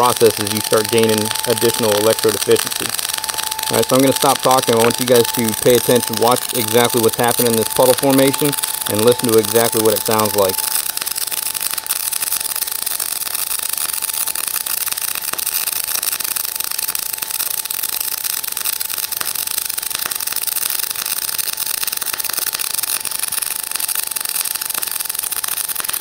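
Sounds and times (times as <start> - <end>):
welding arc crackling and popping: 0.0 - 26.0.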